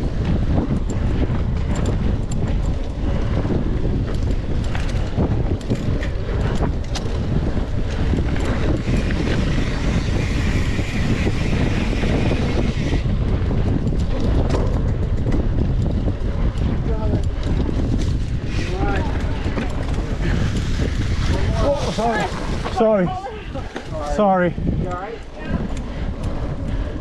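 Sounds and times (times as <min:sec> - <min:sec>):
bike clicks and rattles: 0:00.0 - 0:27.0
low rumble: 0:00.0 - 0:27.0
wind buffeting microphone: 0:00.0 - 0:27.0.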